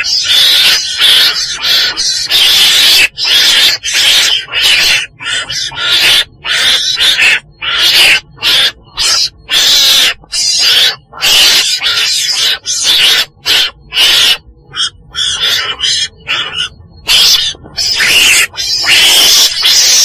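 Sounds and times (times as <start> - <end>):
weasel hissing cries: 0.0 - 20.0.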